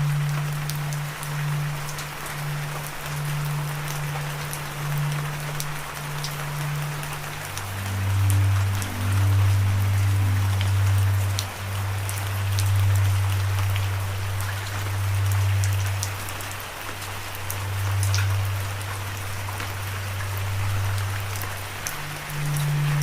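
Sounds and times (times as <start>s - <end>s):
low droning tone: 0.0s - 23.0s
rain falling: 0.0s - 23.0s
raindrops ticking: 0.0s - 23.0s.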